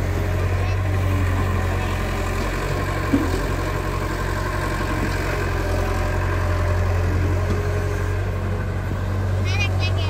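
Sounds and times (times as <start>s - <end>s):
diesel engines idling: 0.0s - 10.0s.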